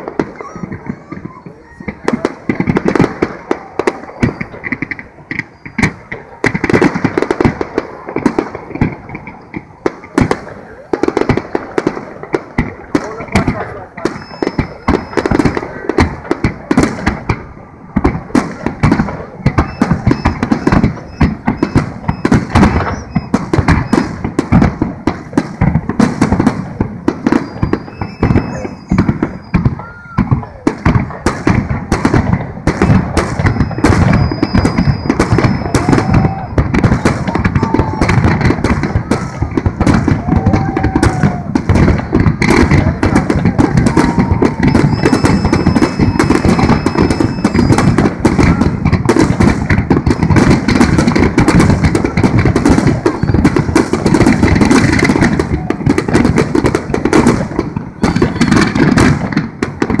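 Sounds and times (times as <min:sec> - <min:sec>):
fireworks bursting and crackling: 0:00.0 - 1:00.0.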